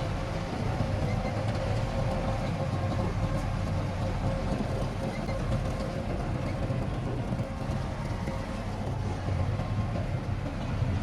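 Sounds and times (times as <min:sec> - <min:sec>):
heavy diesel engine droning: 0:00.0 - 0:11.0.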